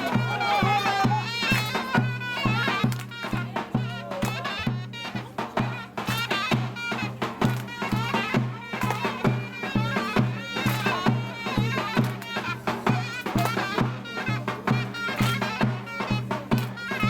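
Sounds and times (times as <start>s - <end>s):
reed wind instrument melody: 0.0s - 17.0s
steady drum beat: 0.0s - 17.0s.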